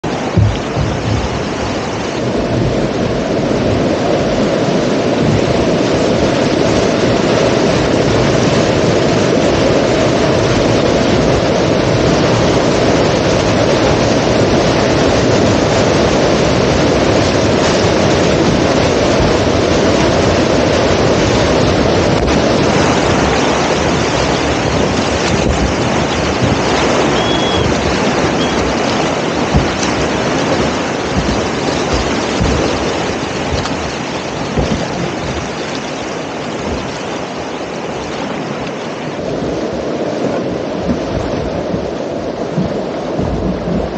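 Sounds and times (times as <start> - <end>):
whitewater rapids rushing: 0.0 - 43.9
wind buffeting microphone: 0.0 - 43.9.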